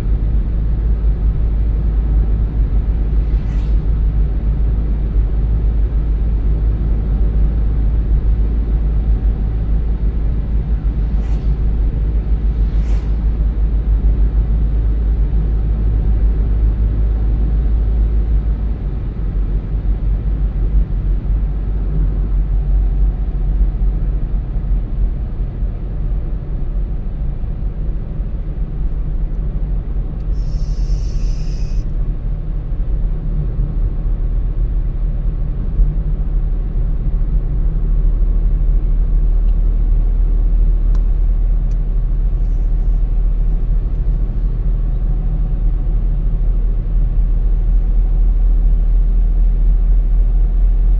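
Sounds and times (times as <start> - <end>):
road and engine rumble: 0.0 - 50.9.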